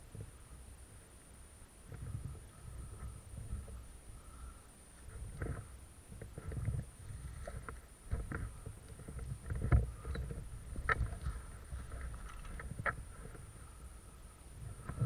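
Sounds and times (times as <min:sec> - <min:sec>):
faint high whine: 0:00.0 - 0:15.0
low rumbling handling noise: 0:01.8 - 0:15.0.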